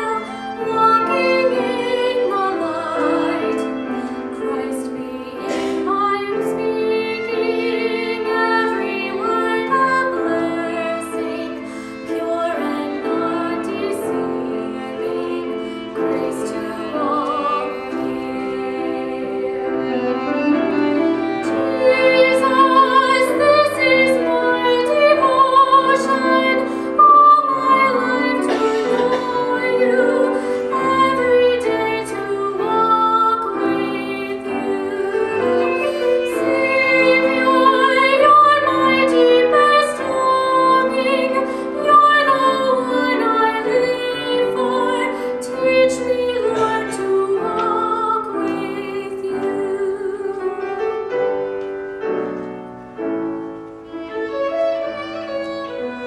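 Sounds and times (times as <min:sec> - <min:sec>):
woman singing a hymn: 0:00.0 - 0:51.0
piano accompaniment: 0:00.0 - 0:56.0.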